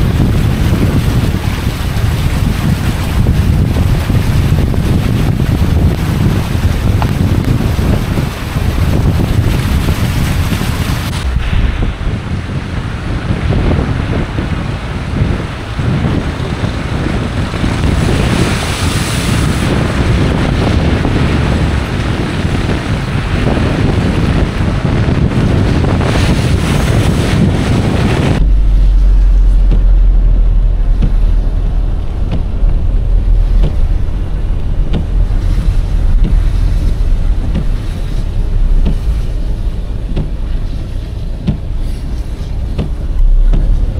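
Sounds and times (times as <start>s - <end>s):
muffled car rumble inside cabin: 0.0s - 43.9s
tyres swishing through water: 0.0s - 43.9s
wind buffeting microphone: 0.0s - 43.9s.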